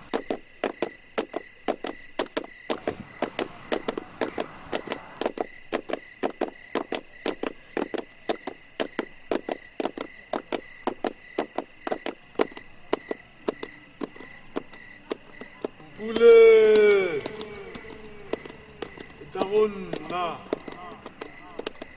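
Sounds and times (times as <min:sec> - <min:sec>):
insect clicking call: 0:00.0 - 0:21.9.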